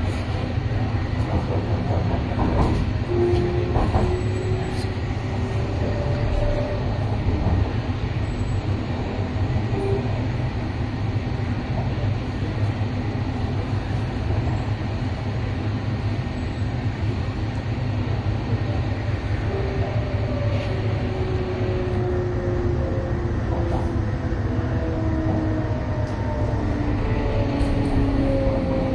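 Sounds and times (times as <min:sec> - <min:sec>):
train wheels rumbling on track: 0:00.0 - 0:28.9.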